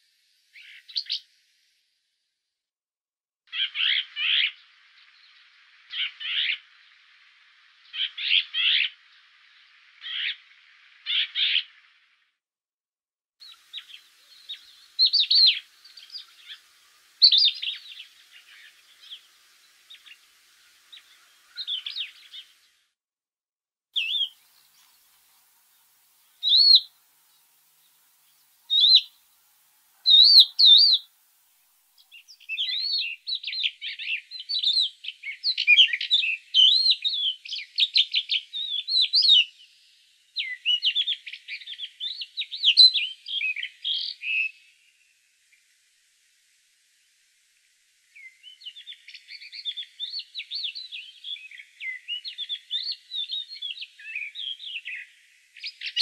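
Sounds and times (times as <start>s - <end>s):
rapid twittering birdsong: 0.0s - 1.7s, 3.5s - 12.4s, 13.4s - 23.0s, 24.0s - 45.8s, 46.9s - 56.0s
songbirds chirping: 0.0s - 1.8s, 3.5s - 12.4s, 13.4s - 23.0s, 24.0s - 56.0s.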